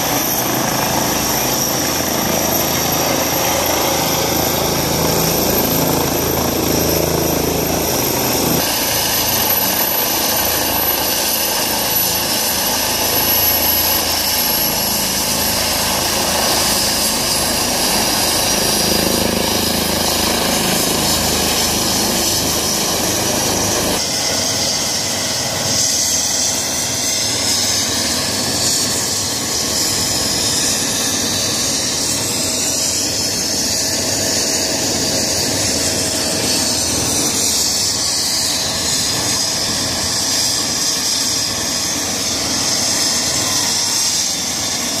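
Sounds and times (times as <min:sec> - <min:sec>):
helicopter engine and rotor running: 0:00.0 - 0:45.0.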